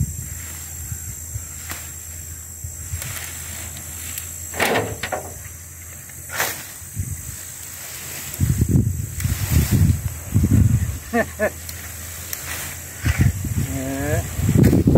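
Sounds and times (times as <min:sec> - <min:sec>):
cut grass rustling: 0:00.1 - 0:14.9.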